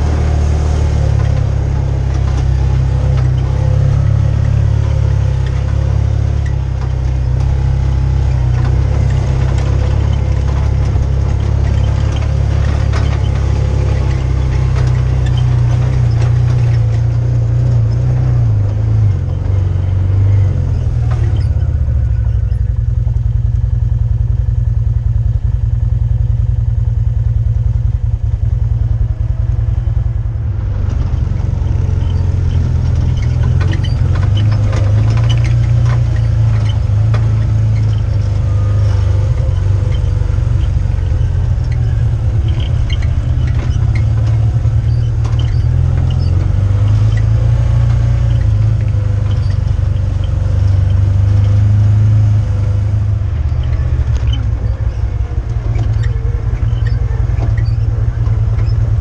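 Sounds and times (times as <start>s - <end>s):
light rattles and knocks: 0.0s - 24.8s, 25.4s - 59.0s
vehicle engine droning: 0.0s - 59.0s.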